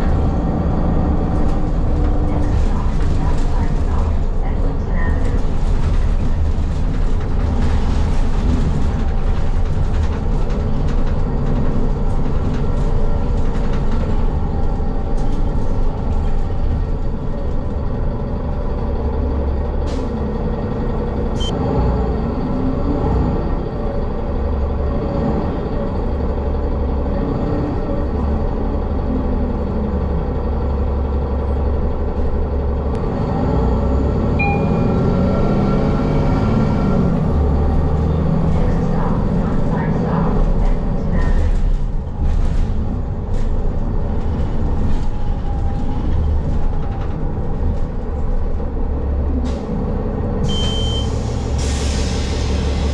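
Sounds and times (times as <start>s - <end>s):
bus engine rumble: 0.0s - 52.9s
road noise: 0.0s - 52.9s.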